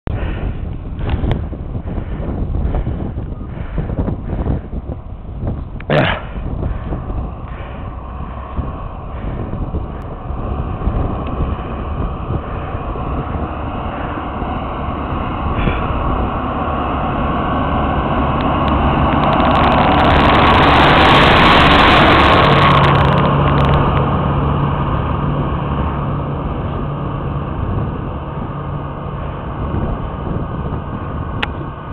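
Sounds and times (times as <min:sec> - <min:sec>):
tractor engine running: 0:00.1 - 0:31.9.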